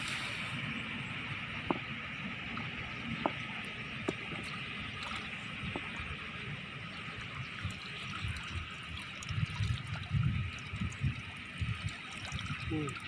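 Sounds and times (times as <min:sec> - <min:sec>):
low rumbling bumps: 0:00.0 - 0:12.0
river water flowing: 0:00.0 - 0:13.0.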